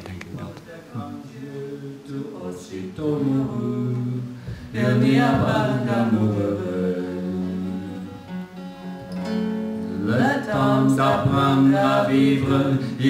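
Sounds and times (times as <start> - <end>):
man singing slow song: 0.9 - 8.3, 9.9 - 13.0.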